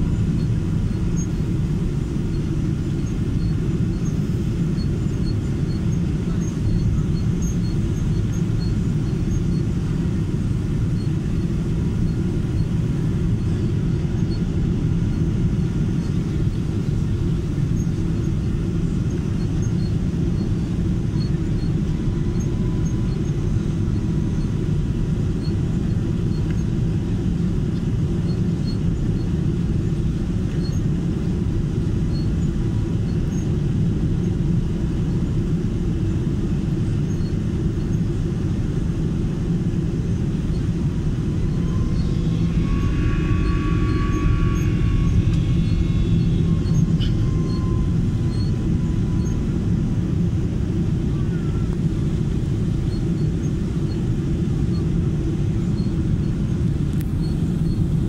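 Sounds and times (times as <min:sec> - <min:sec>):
airliner engine rumble in cabin: 0:00.0 - 0:58.0.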